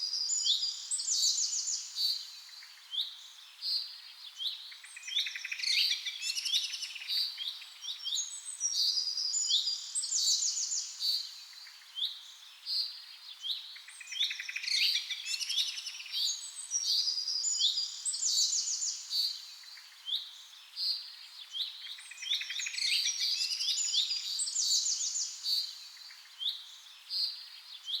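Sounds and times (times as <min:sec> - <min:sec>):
small birds chirping and trilling: 0:00.3 - 0:28.0.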